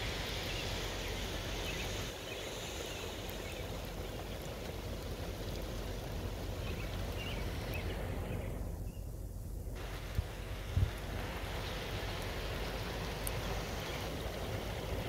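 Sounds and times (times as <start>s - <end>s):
tyres ploughing through flood water: 0.0s - 8.9s, 9.5s - 15.0s.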